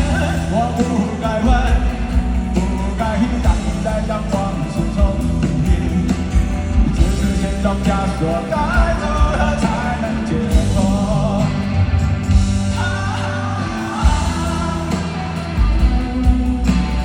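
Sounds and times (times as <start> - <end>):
person singing: 0.0 - 12.0, 12.6 - 17.0
live rock band playing: 0.0 - 17.0.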